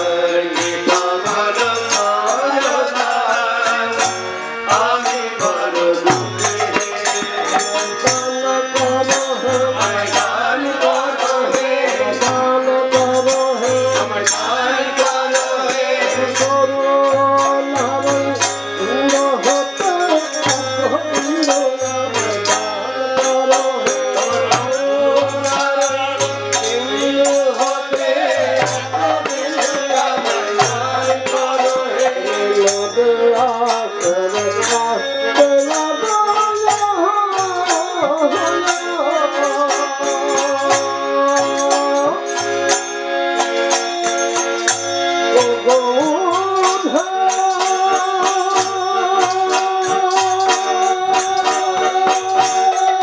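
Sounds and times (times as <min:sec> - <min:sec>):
person singing: 0:00.0 - 0:42.4, 0:45.3 - 0:53.0
harmonium chords: 0:00.0 - 0:53.0
jingling percussion: 0:00.0 - 0:53.0.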